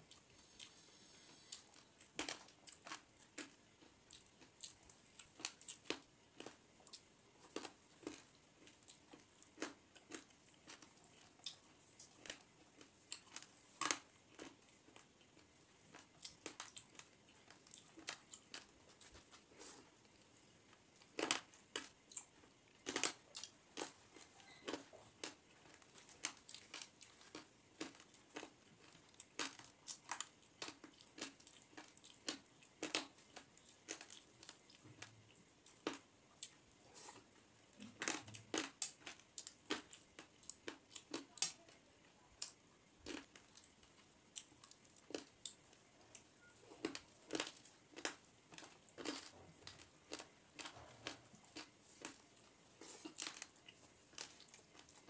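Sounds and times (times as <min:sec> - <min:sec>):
chewing: 0:00.0 - 0:55.0.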